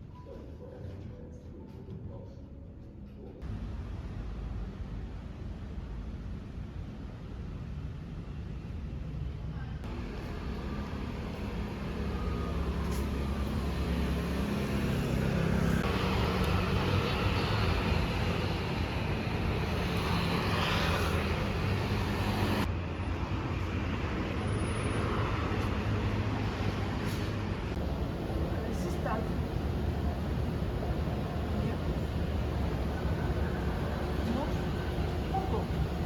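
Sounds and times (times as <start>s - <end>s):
low rumble of passing traffic: 3.4s - 36.0s.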